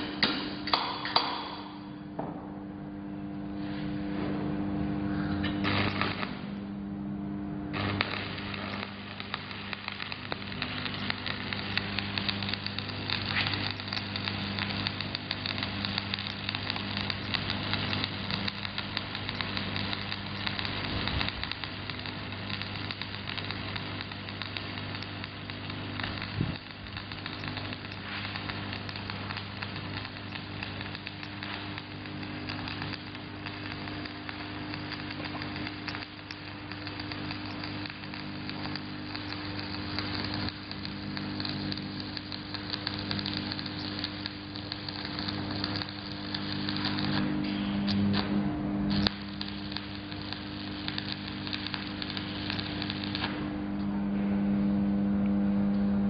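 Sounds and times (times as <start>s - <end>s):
welding arc crackling: 0.0s - 2.0s, 4.6s - 54.0s
low hum: 1.5s - 56.0s.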